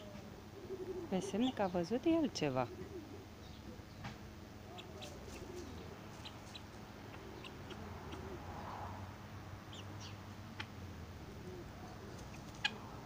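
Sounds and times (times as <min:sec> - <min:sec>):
bird cooing: 0:00.0 - 0:04.0, 0:04.6 - 0:08.8, 0:09.7 - 0:13.0
faint low hum: 0:00.0 - 0:13.0.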